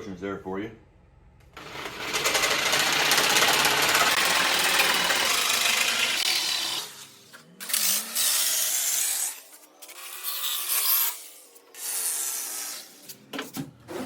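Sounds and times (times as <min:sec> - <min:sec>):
electric saw cutting wood: 0:01.6 - 0:13.0.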